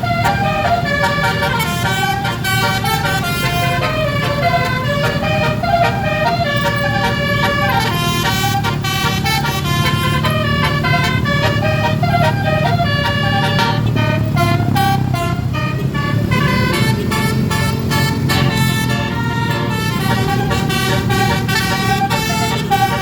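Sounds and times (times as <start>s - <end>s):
low engine rumble: 0.0s - 23.0s
multi-tone musical bus horn: 0.0s - 23.0s.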